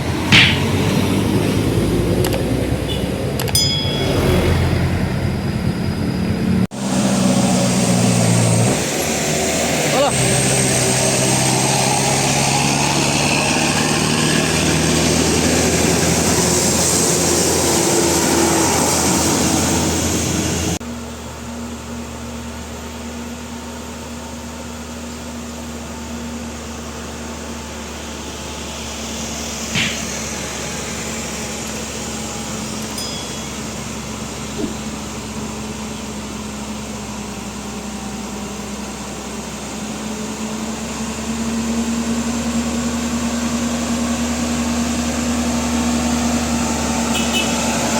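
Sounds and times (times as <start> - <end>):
diesel engine labouring: 0.0 - 47.9.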